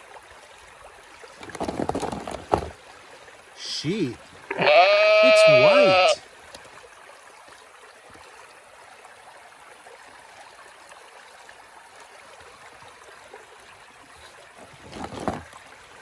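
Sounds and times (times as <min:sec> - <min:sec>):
stream running: 0:00.0 - 0:16.0.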